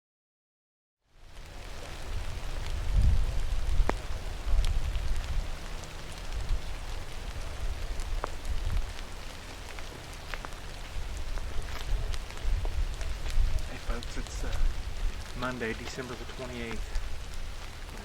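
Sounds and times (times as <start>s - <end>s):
light rain pattering: 1.0s - 18.0s
low uneven rumble: 1.2s - 18.0s
raindrop ticks: 1.2s - 18.0s.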